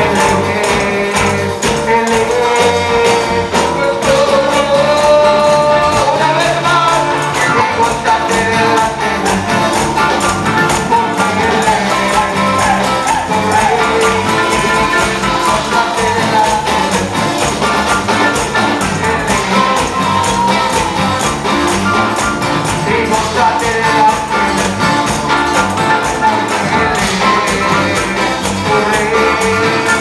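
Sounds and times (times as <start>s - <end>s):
live band playing worship music: 0.0s - 30.0s
tambourines shaken and struck: 0.0s - 30.0s.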